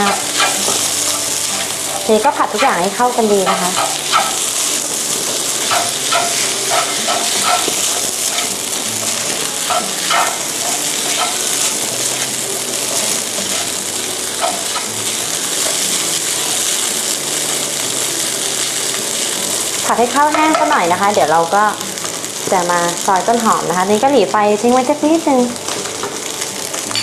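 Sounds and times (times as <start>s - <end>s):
rice sizzling in a frying pan: 0.0s - 27.0s.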